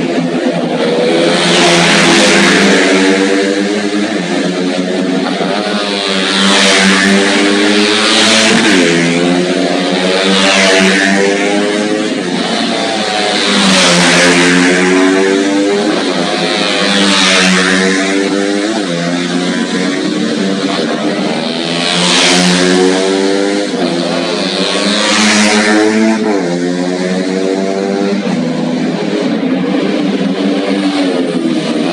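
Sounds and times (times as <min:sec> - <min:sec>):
racing motorcycles passing: 0:00.0 - 0:31.9.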